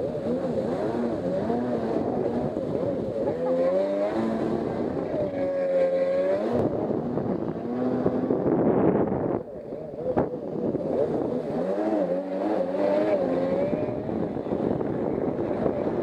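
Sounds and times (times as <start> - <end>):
jet ski engine revving: 0.0 - 16.0
water rushing: 0.0 - 16.0
wind: 0.0 - 16.0.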